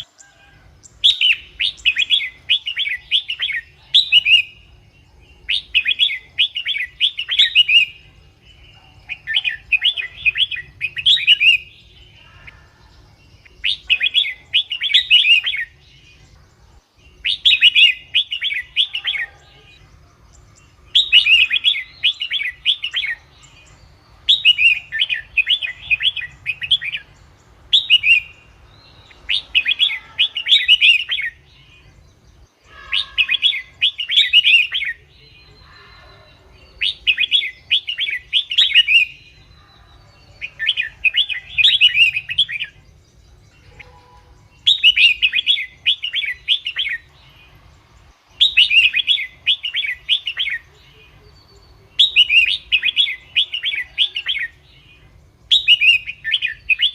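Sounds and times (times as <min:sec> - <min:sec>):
bird singing chirpy phrases: 0:00.0 - 0:56.9.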